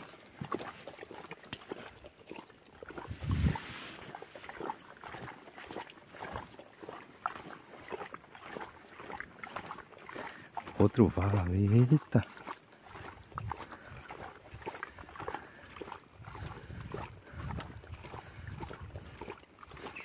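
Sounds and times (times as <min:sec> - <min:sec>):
footsteps on dirt trail: 0:00.0 - 0:20.0.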